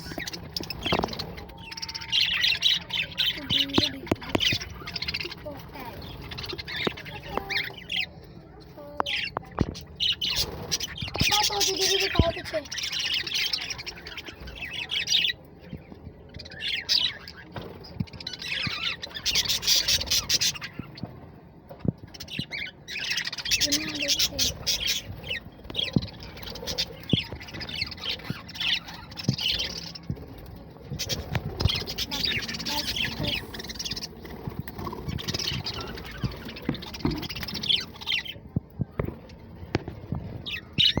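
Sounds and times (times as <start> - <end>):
parrots chattering and squawking: 0.0 - 21.2, 22.0 - 41.0
birds chirping: 0.0 - 41.0.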